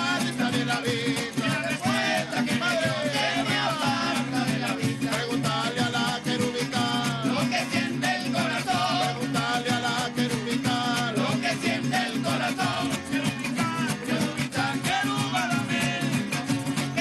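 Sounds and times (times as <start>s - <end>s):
busy percussion rhythm: 0.0s - 17.0s
men singing: 0.0s - 17.0s
strummed cuatros: 0.0s - 17.0s.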